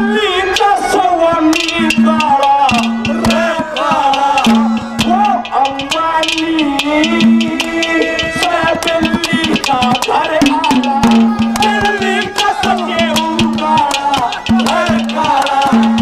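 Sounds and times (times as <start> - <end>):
man singing into microphone: 0.0 - 16.0
percussion beat: 0.0 - 16.0
held low note: 1.6 - 16.0.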